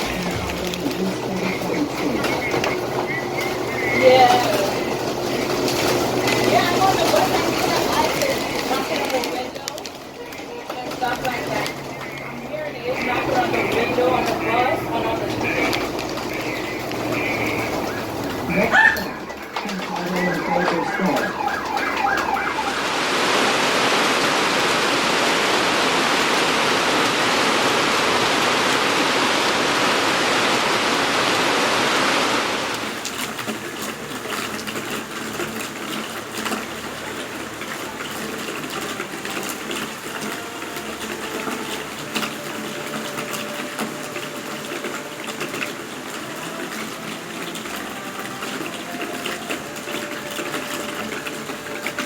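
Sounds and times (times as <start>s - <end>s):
heavy rain on a street: 0.0s - 52.0s.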